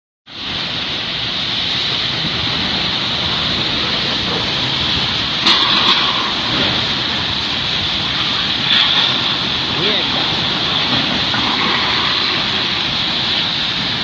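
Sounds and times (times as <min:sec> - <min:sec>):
heavy rain: 0:00.3 - 0:14.0
strong wind gusts: 0:00.4 - 0:14.0.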